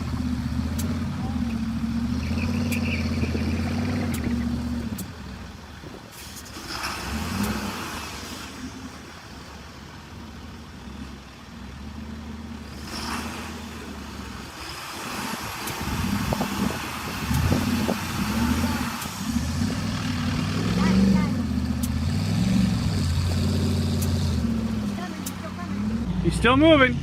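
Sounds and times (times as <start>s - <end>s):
heavy vehicle engine humming: 0.0s - 27.0s.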